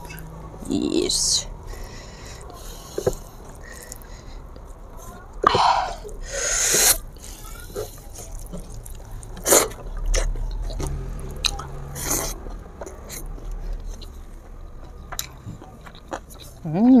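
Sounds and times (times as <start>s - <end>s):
person chewing with wet smacking: 1.7s - 17.0s.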